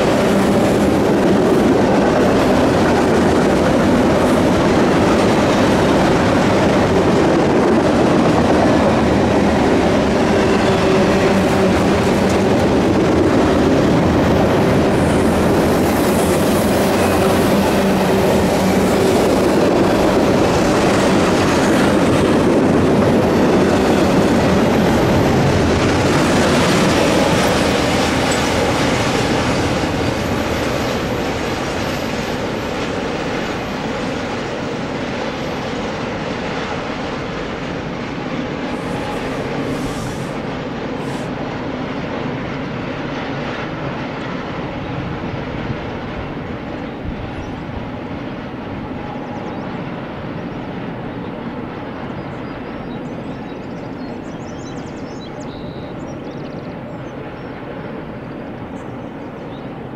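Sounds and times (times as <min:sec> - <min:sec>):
freight train rolling by: 0:00.0 - 0:59.9.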